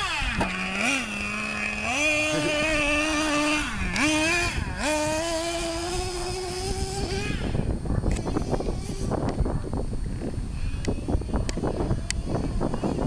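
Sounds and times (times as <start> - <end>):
small nitro engine buzzing whine: 0.0 - 13.0.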